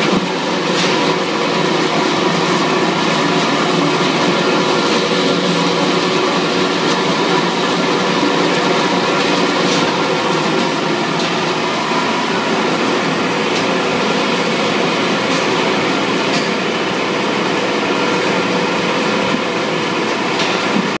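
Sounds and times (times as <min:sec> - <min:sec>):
conveyor and motors running: 0:00.0 - 0:21.0.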